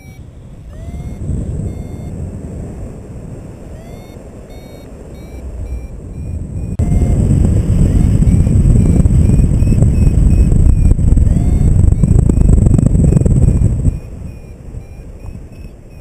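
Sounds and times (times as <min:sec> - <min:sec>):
variometer beeping: 0:00.0 - 0:02.2, 0:03.7 - 0:16.0
wind buffeting microphone: 0:00.0 - 0:16.0.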